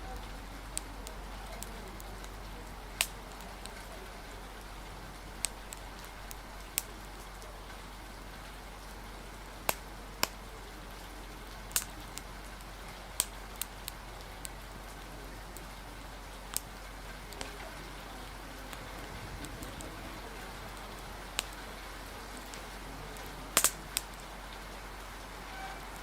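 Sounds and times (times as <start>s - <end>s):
rain hissing: 0.0s - 26.0s
wind: 0.0s - 26.0s
wood fire crackling: 0.0s - 26.0s.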